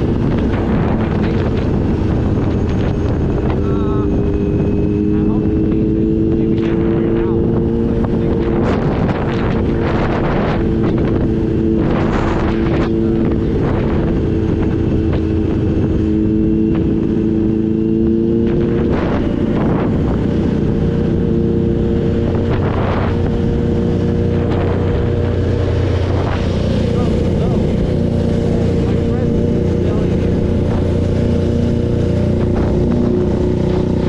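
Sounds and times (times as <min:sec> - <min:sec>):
motorcycle engine cruising: 0:00.0 - 0:34.0
wind buffeting microphone: 0:00.0 - 0:34.0.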